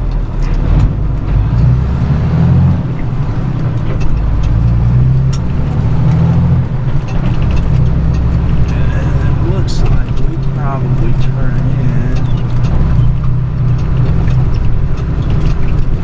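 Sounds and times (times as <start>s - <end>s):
truck engine accelerating: 0.0s - 16.0s.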